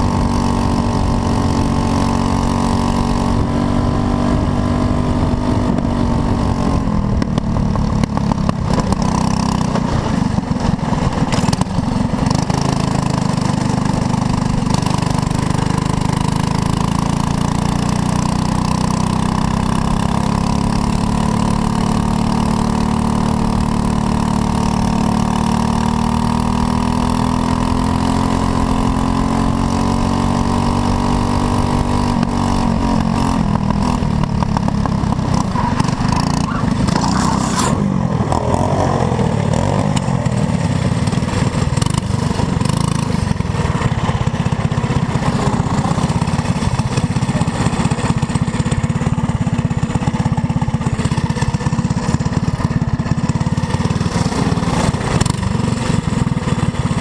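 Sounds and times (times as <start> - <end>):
racing kart engine accelerating: 0.0 - 57.0.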